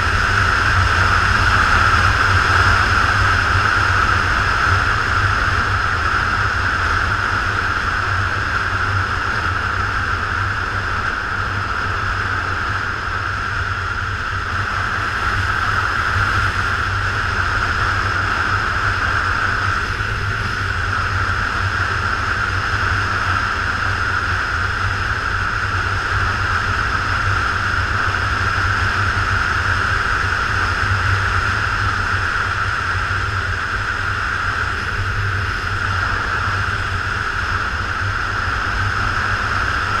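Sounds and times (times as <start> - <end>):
motorcycle engine drone: 0.0 - 40.0
wind rushing over microphone: 0.0 - 40.0.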